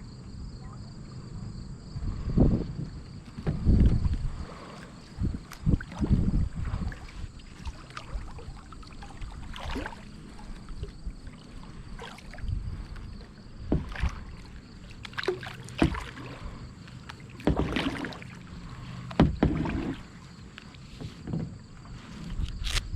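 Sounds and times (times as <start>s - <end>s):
paddle splashing water: 3.0s - 22.8s.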